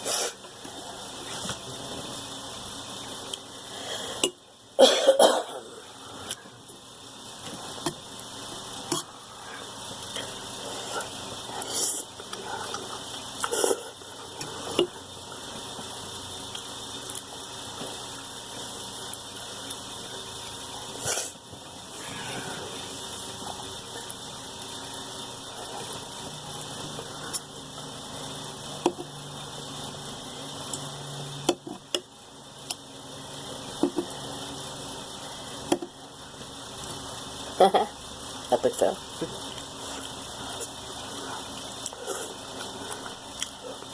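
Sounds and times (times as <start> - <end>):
steady background hiss: 0.0 - 43.9.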